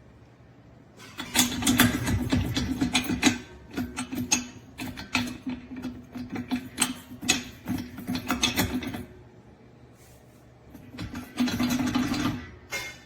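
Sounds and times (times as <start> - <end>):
metal hose reel rattling: 1.0 - 9.2, 10.6 - 13.0.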